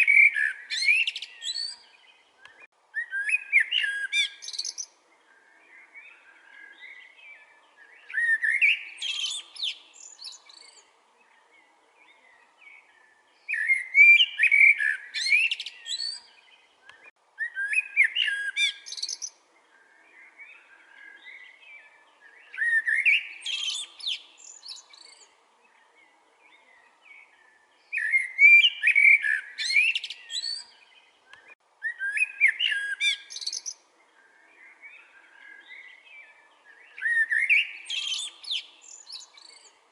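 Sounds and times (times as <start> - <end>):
blackbird singing: 0.0 - 39.8
faint birdsong: 0.0 - 39.9.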